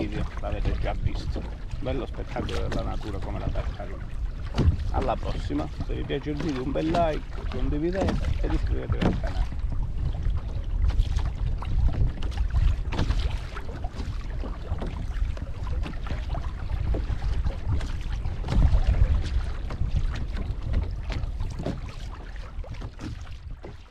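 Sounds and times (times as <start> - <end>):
wind buffeting microphone: 0.0 - 23.8
water splashing against kayak hull: 0.0 - 23.9.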